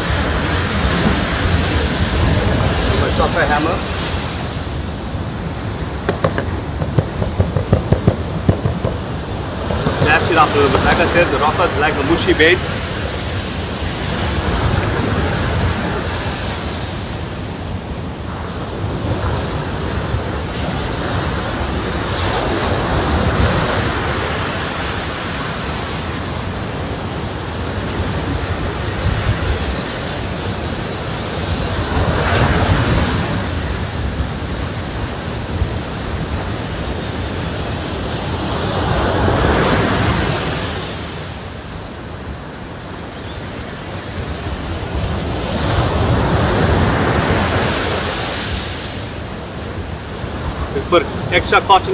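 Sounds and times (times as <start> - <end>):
surf breaking on beach: 0.0 - 43.0, 43.6 - 51.9
wind rumbling on microphone: 0.0 - 51.9.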